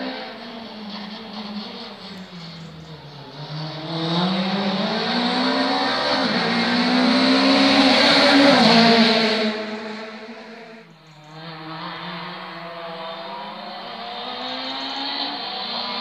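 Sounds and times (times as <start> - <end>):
rally car passing at full throttle: 0.0 - 16.0.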